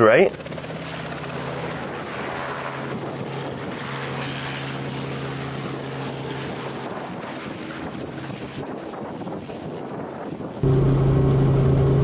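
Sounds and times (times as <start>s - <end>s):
helicopter hovering: 0.0s - 12.0s.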